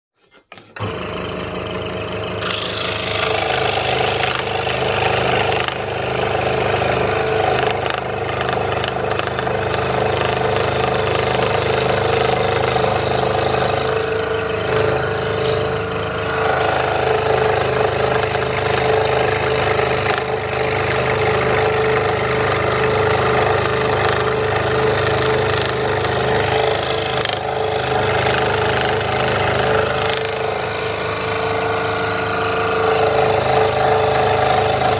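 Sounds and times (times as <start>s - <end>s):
scroll saw humming: 0.2s - 34.9s
saw blade rasping through wood: 2.4s - 34.9s.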